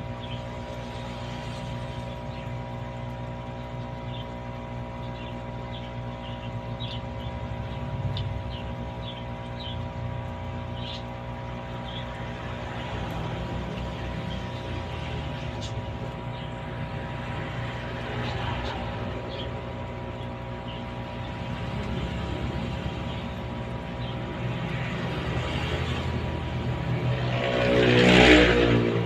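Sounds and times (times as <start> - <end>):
mechanical hum with fixed tones: 0.0 - 29.0.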